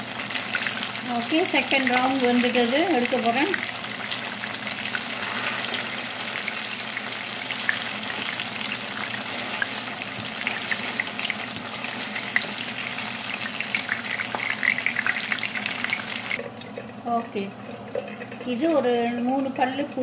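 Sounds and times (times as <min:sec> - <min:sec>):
tofu sizzling in hot oil: 0:00.0 - 0:18.8.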